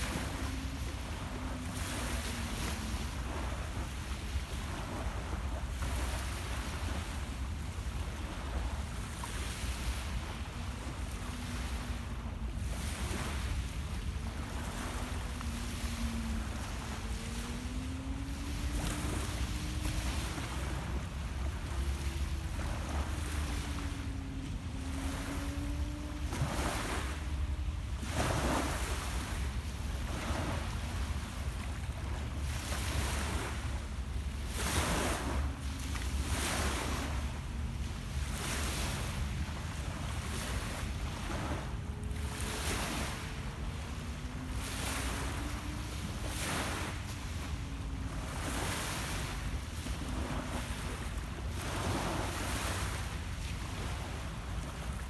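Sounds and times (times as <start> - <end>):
waves lapping on pebbles: 0.0 - 55.0
wind rumble on microphone: 0.0 - 55.0.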